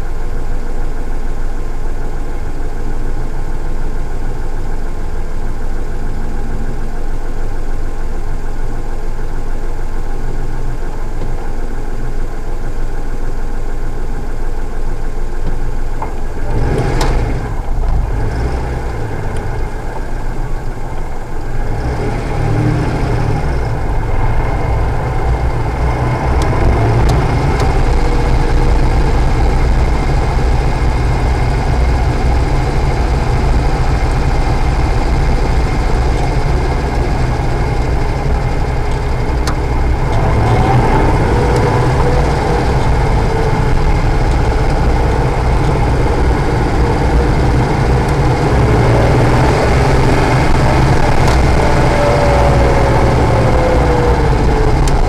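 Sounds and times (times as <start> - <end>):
car engine rumble: 0.0 - 55.0
road and wind noise: 0.0 - 55.0.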